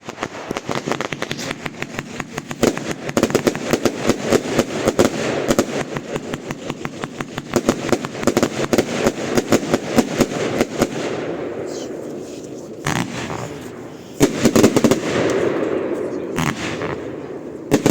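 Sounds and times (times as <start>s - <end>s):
fireworks bangs and crackles: 0.0s - 17.9s.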